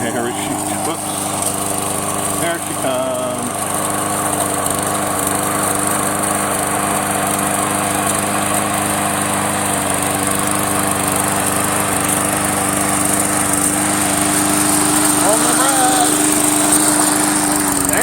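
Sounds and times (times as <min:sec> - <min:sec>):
push mower running: 0:00.0 - 0:18.0.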